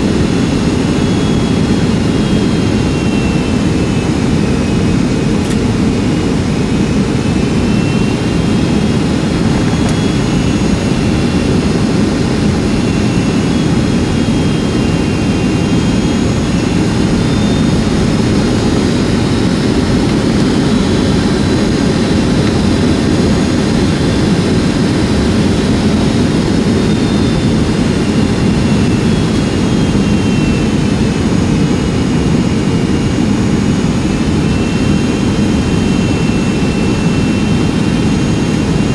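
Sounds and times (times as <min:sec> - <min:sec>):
faint high whining tones: 0:00.0 - 0:38.9
jet engine rumble in cabin: 0:00.0 - 0:38.9.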